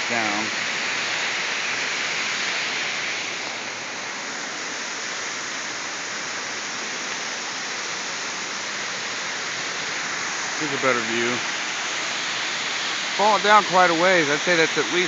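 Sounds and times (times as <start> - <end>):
waterfall crashing: 0.0 - 15.0.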